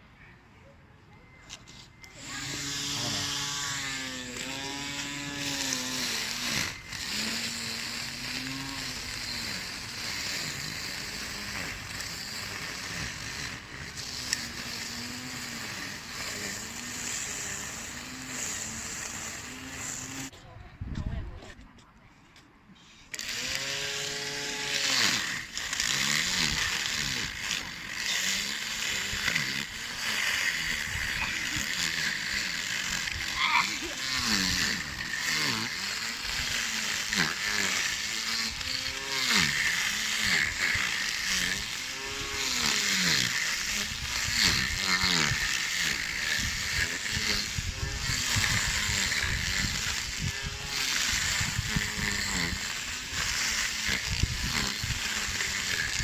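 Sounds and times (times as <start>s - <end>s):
electric lawn mower motor whining: 0.7s - 20.4s, 23.1s - 56.0s
grass cutting hiss: 1.4s - 20.3s, 22.9s - 56.0s.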